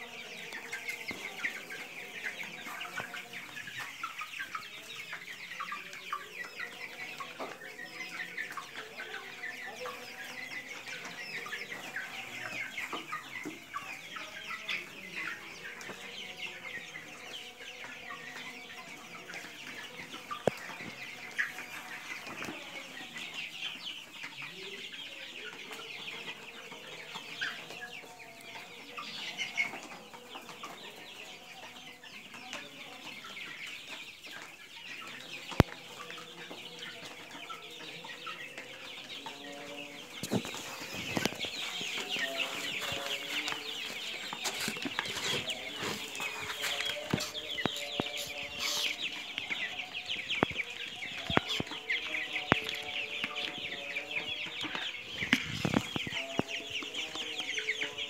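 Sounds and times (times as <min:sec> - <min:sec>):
chickens clucking and chirping: 0:00.0 - 0:58.0.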